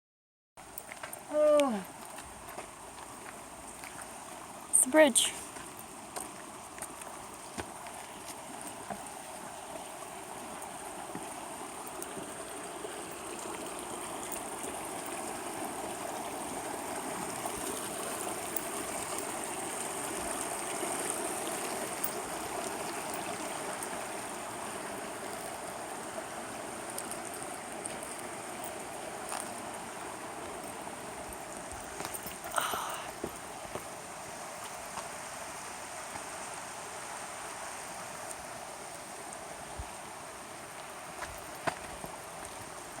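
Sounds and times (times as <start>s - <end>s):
stream water rushing: 0.6s - 43.0s.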